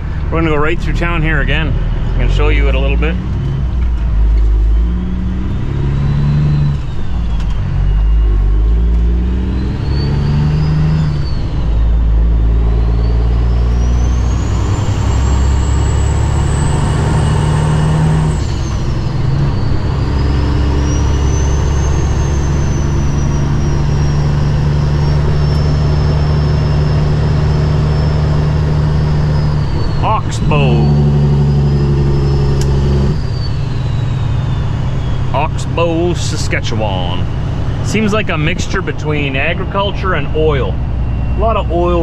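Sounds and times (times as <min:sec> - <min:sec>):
diesel truck engine pulling: 0:00.0 - 0:42.0
high whine: 0:00.0 - 0:42.0.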